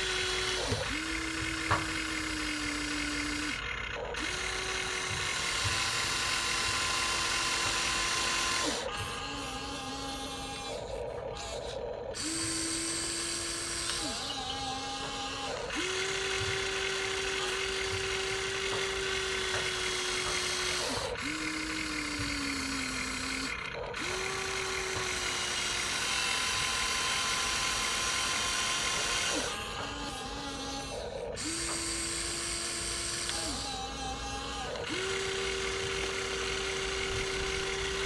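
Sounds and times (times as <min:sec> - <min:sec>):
small electric motors whining: 0:00.0 - 0:38.0.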